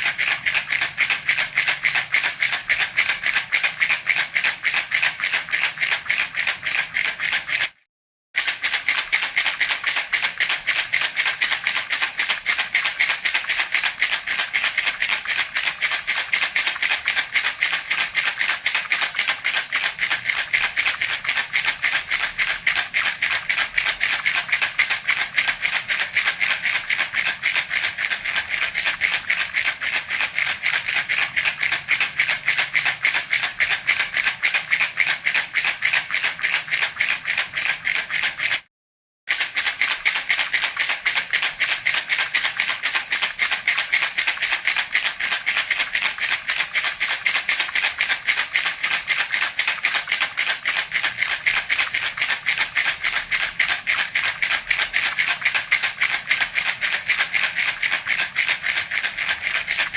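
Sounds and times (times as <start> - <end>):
baby rattle shaken: 0.0 - 7.8, 8.4 - 38.7, 39.3 - 59.9.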